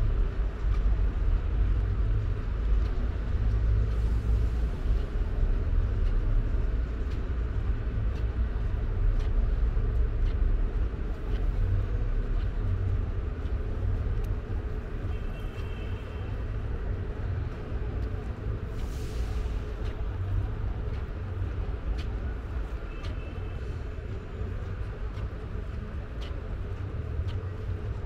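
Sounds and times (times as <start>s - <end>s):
city street traffic rumble: 0.0s - 28.0s.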